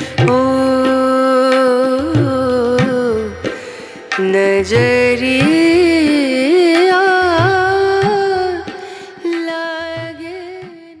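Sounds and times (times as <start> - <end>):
light drum beat: 0.0 - 10.9.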